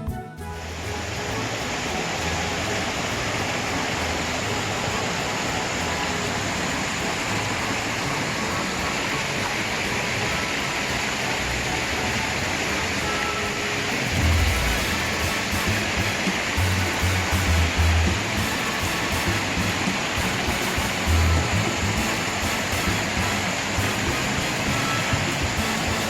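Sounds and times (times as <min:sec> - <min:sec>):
stream rushing over rocks: 0:00.4 - 0:26.0.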